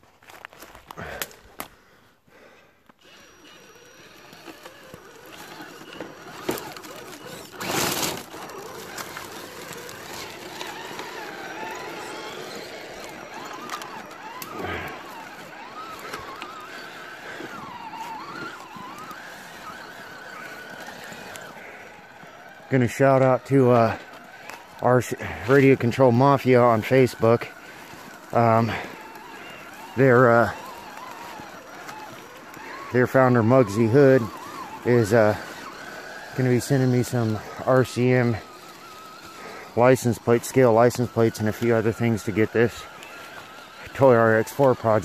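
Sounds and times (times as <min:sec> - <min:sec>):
electric motor whining: 0:02.9 - 0:45.0
leaves rustling: 0:03.8 - 0:22.0, 0:23.6 - 0:45.0.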